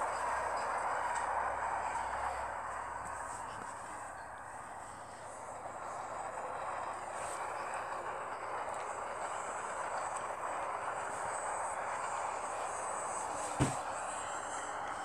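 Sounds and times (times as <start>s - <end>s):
electric train approaching: 0.0s - 15.0s.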